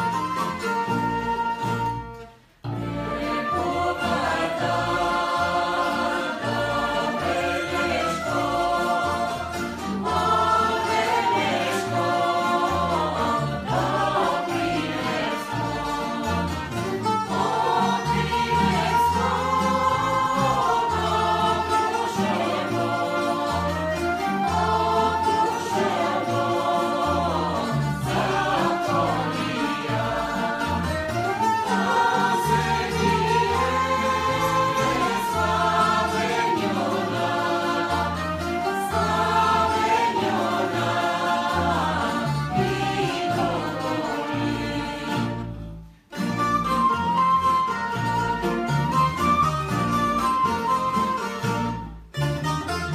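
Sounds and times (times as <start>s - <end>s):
mixed choir singing folk song: 0.0s - 51.9s.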